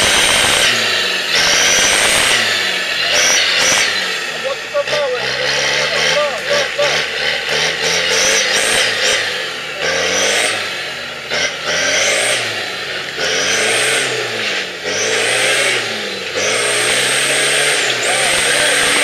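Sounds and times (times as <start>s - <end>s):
off-road engine revving hard: 0.0s - 19.0s.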